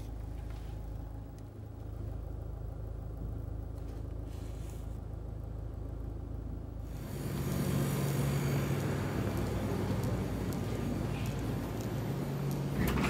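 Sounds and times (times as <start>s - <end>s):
diesel car idling: 0.0s - 13.0s.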